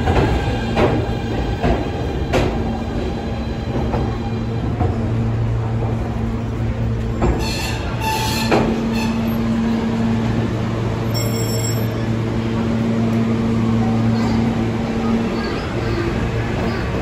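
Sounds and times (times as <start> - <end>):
subway train electrical hum: 0.0 - 17.0.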